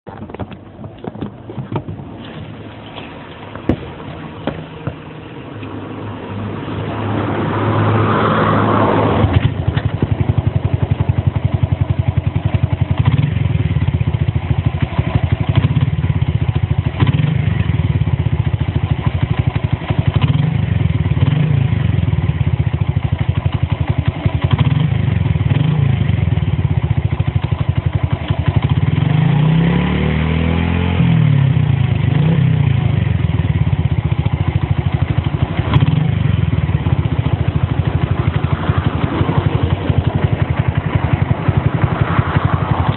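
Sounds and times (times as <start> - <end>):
motorcycle engine idling: 0.1 - 6.5, 9.3 - 29.6, 31.1 - 42.9.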